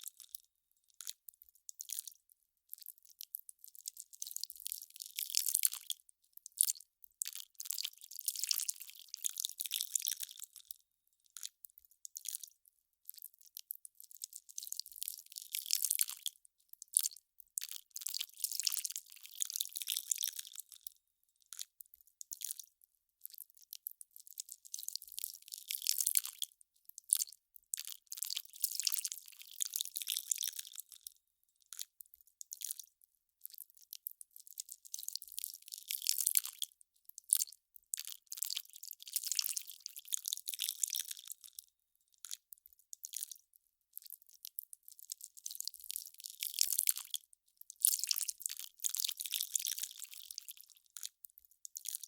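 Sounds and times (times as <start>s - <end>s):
melting ice crackling and fizzing: 0.0s - 52.0s.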